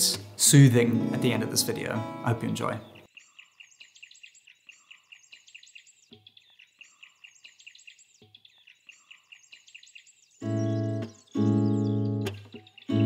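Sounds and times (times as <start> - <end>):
faint birdsong high chirps: 0.0 - 13.0.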